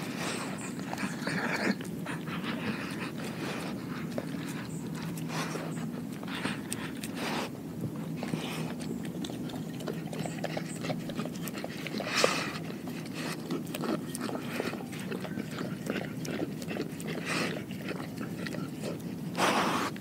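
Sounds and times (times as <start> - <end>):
dog licking and eating: 0.0 - 20.0
dog snuffling: 0.0 - 20.0.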